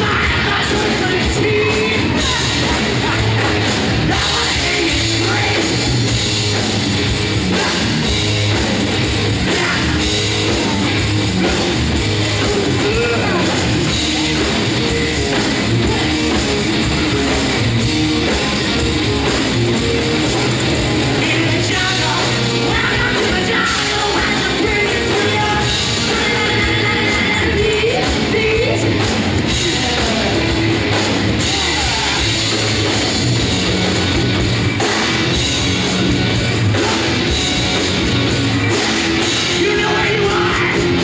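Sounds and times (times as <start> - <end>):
rock music with drums: 0.0 - 41.0.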